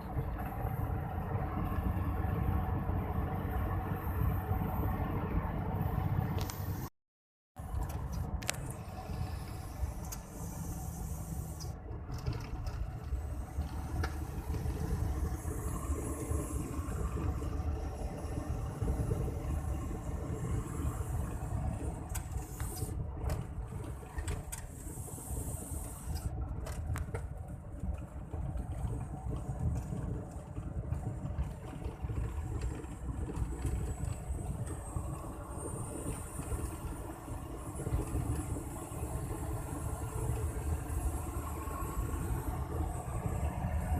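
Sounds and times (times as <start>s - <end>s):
truck diesel engine drone: 0.0s - 6.9s, 7.6s - 43.9s.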